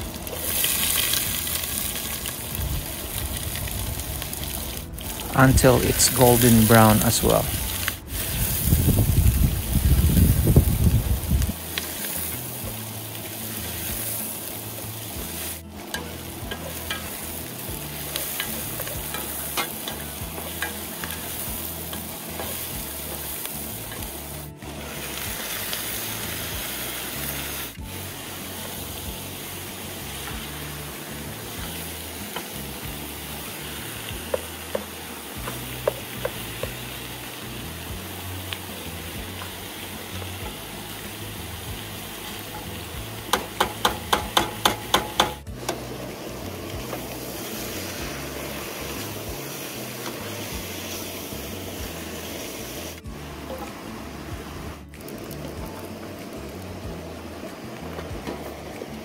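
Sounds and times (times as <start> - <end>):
onions sizzling in a pot: 0.0 - 59.0.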